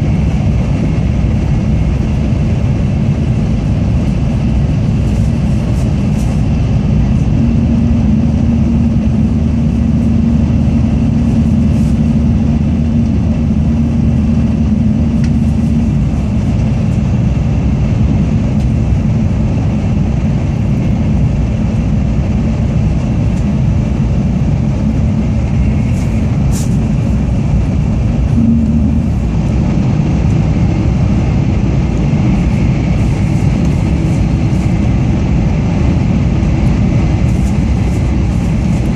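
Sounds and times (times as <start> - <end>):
rushing air: 0.0 - 19.5, 22.7 - 38.9
low steady hum: 0.0 - 38.9
train wheels rumbling: 1.2 - 38.9.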